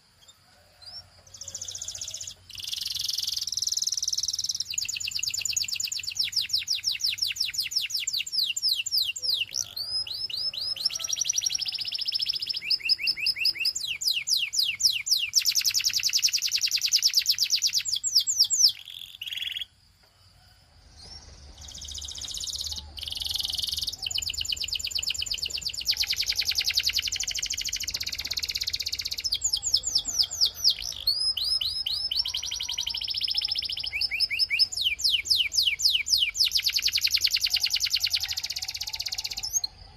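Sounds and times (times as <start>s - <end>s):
canary singing trills: 0.0s - 19.8s, 20.8s - 39.9s.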